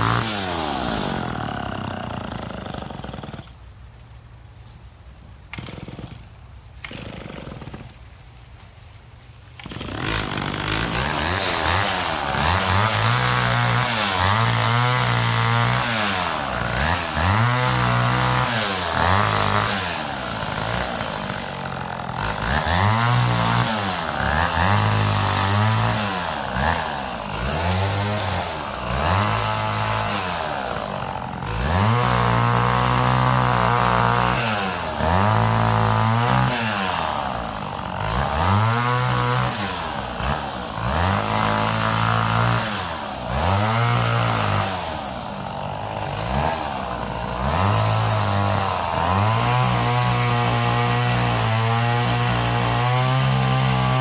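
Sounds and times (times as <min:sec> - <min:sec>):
two-stroke chainsaw revving: 0:00.0 - 0:03.7, 0:05.5 - 0:08.1, 0:09.5 - 0:54.0.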